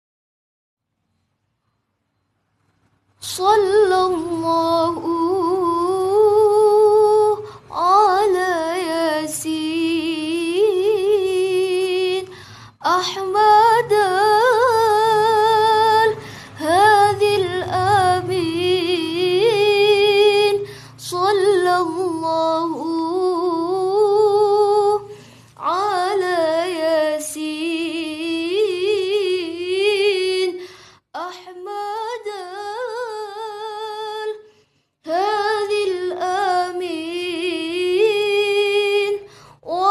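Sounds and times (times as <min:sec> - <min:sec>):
woman singing devotional song: 0:03.2 - 0:39.9.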